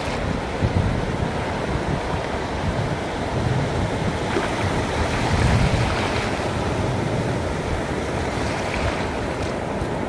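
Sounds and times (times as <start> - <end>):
ocean surf breaking: 0.0 - 10.0
wind rumble on microphone: 0.0 - 10.0.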